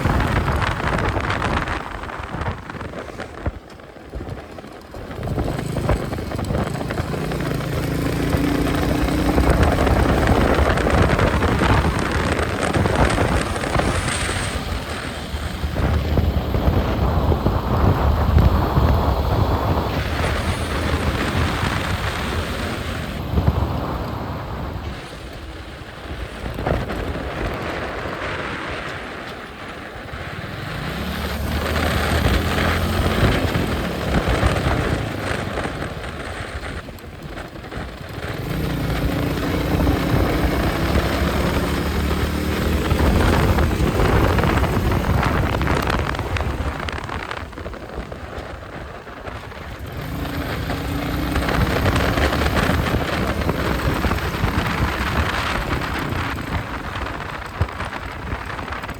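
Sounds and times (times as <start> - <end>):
motorcycle engine revving: 0.0 - 58.9
wind on microphone: 0.0 - 58.9.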